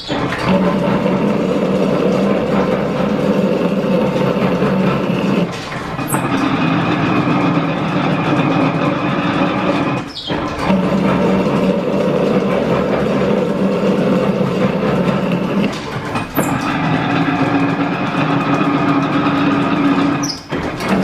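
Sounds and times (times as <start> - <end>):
shop machinery humming: 0.0 - 21.0.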